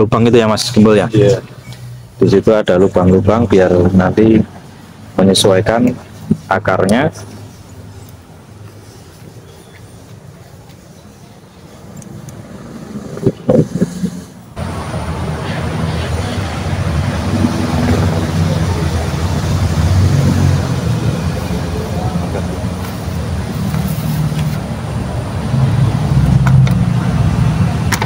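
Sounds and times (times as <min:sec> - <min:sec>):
vehicle engine running: 0:02.0 - 0:28.0.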